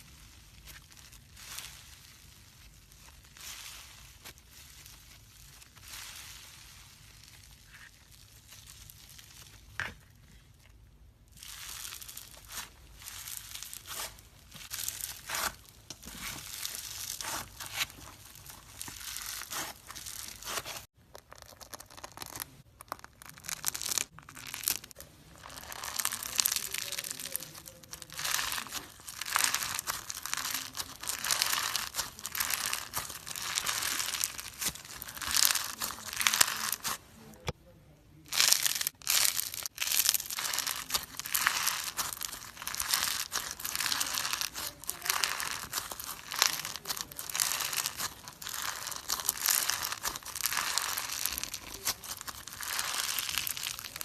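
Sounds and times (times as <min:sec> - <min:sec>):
crunchy slime crackling: 0:00.0 - 0:37.6, 0:38.2 - 0:54.0.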